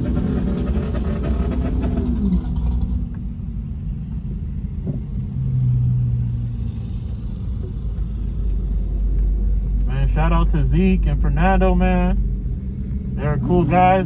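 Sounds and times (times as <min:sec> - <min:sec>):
car engine running: 0:00.0 - 0:14.0
low hum: 0:00.0 - 0:14.0.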